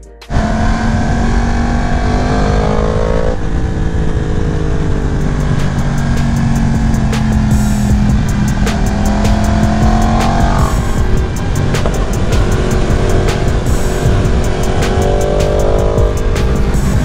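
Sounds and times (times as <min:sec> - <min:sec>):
motorcycle engine accelerating: 0:00.3 - 0:17.0
wind noise: 0:00.3 - 0:17.0.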